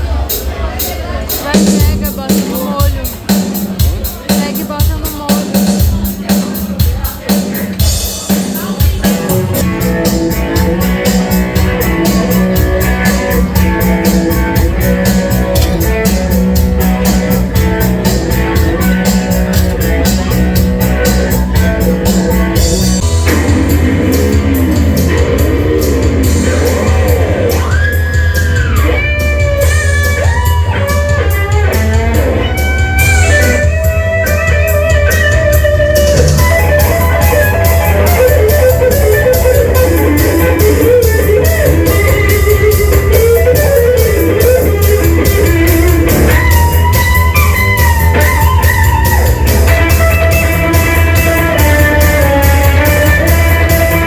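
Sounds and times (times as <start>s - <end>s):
rock music: 0.0s - 54.0s.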